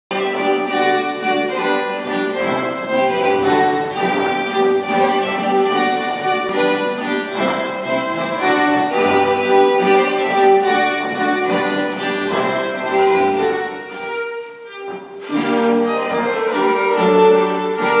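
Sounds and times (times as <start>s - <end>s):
strings playing baroque dance: 0.1s - 18.0s.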